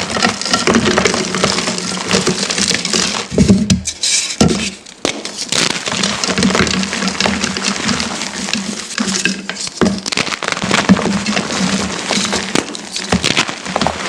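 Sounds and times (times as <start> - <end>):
crumbly material crunching: 0.0 - 14.0.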